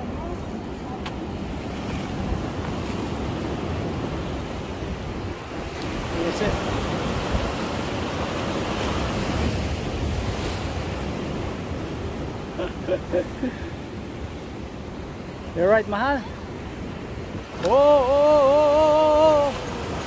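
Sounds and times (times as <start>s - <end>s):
wind rumbling on microphone: 0.0s - 12.6s, 16.2s - 20.0s
sea waves washing: 0.0s - 20.0s.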